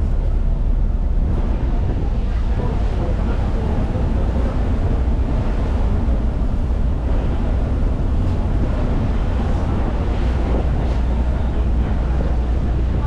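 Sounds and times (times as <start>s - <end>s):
sea wash: 0.0s - 13.0s
steady low rumble: 0.0s - 13.0s
wind buffeting microphone: 0.0s - 13.0s.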